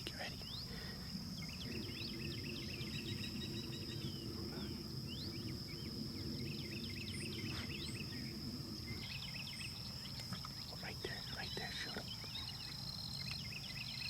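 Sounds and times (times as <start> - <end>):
low rumble: 0.0 - 11.7
birds chirping: 0.0 - 14.0
high-pitched insect drone: 0.0 - 14.0.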